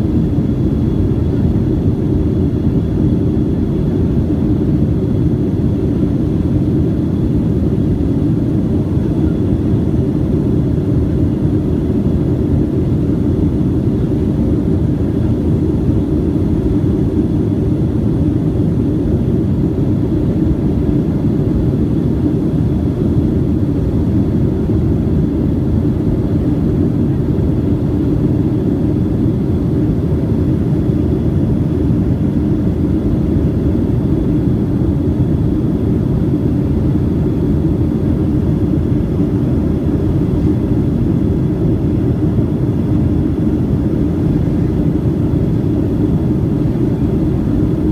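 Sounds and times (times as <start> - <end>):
airliner cabin engine roar: 0.0 - 47.9
faint high whine: 0.0 - 47.9.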